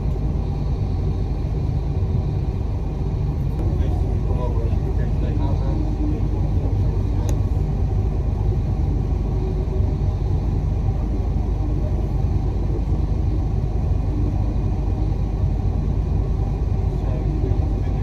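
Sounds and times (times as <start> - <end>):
moving bus rumbling: 0.0 - 18.0.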